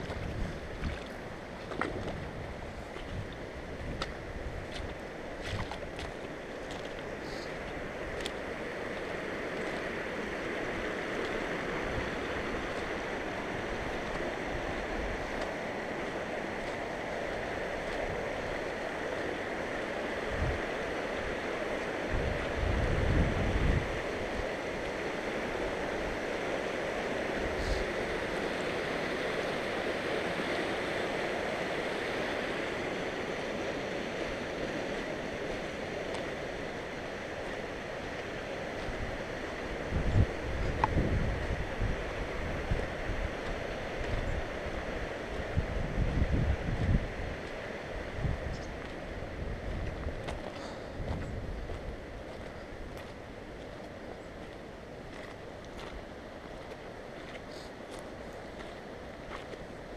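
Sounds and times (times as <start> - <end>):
mountain creek rushing: 0.0 - 59.9.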